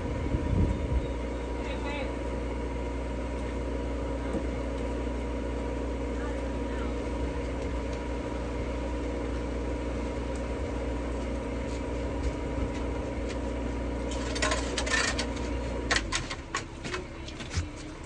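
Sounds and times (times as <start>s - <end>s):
tractor engine idling: 1.0s - 18.0s.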